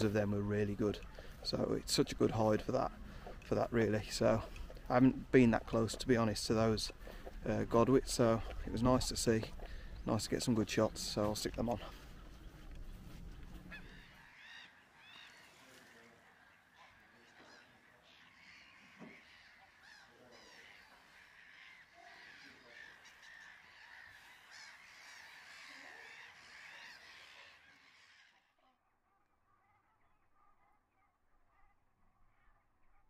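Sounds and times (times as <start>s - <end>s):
geese and ducks calling: 0.0s - 28.5s.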